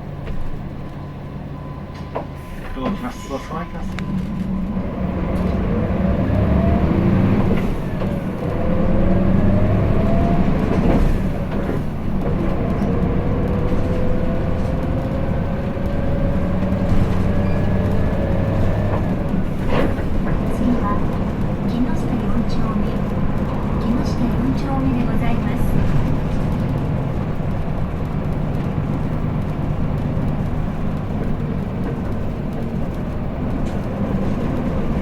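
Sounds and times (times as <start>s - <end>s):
bus engine drone and whine: 0.0s - 35.0s.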